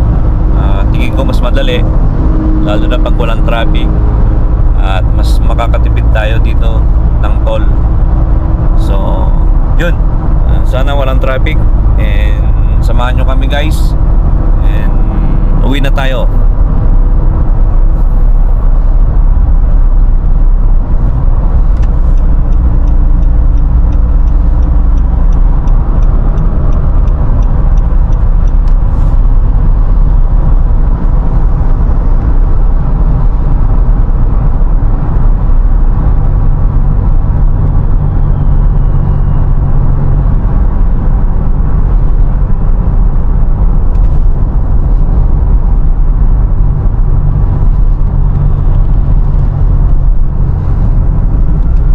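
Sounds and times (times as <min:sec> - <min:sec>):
engine and road noise in cabin: 0:00.0 - 0:51.9.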